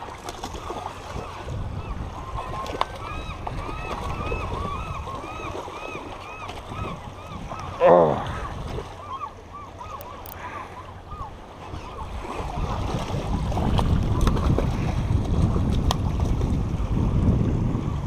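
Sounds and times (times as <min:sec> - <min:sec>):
wind rumbling on microphone: 0:00.0 - 0:09.0, 0:11.1 - 0:18.0.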